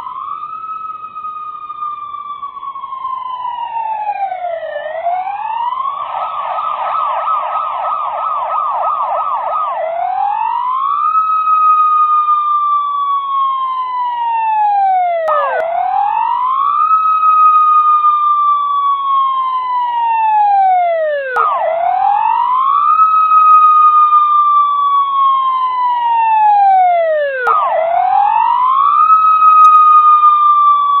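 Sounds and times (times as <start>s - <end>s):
police siren wailing and yelping: 0.0s - 31.0s.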